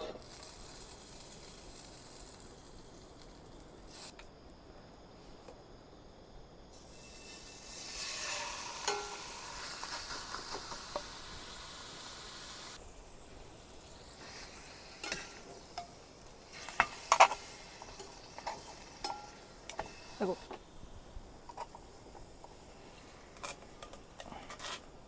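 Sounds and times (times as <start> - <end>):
meat sizzling on a grill: 0.0 - 4.1, 6.7 - 25.0.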